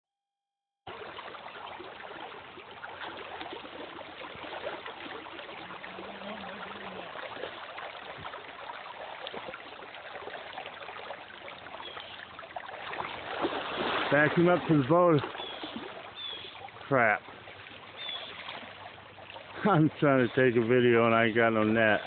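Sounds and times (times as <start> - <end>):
river water rushing: 0.9 - 22.0.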